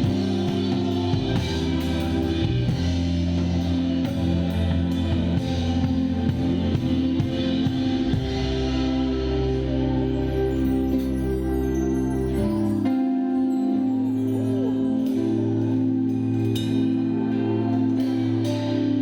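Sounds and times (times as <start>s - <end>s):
live band playing worship song: 0.0s - 19.0s.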